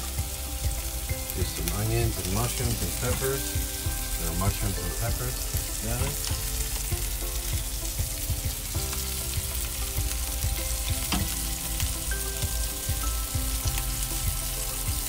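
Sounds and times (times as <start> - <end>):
meat sizzling on griddle: 0.0 - 15.0.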